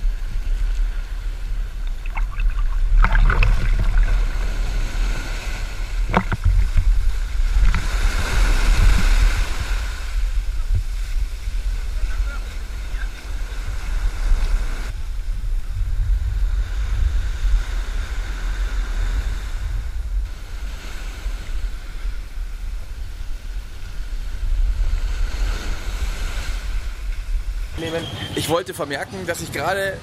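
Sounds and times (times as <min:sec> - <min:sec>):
wind buffeting microphone: 0:00.0 - 0:28.3.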